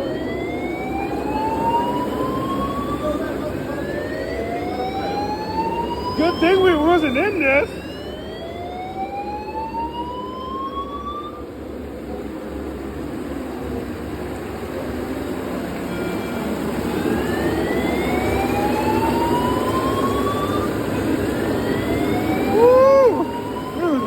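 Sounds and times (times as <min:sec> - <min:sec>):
fire alarm whooping: 0:00.0 - 0:11.5, 0:15.9 - 0:24.0.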